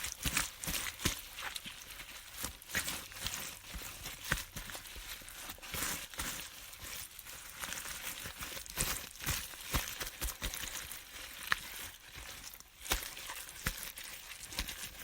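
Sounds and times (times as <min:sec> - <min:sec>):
hands rubbing cabbage leaves: 0:00.0 - 0:15.0.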